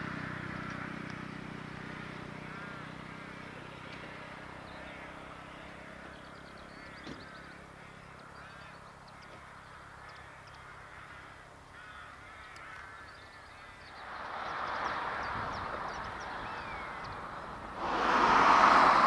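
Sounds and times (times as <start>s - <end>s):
birds calling: 0.5s - 19.0s.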